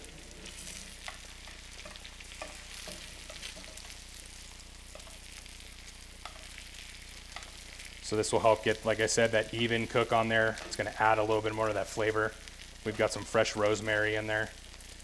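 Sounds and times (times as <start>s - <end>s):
butter sizzling in a skillet: 0.0s - 15.0s.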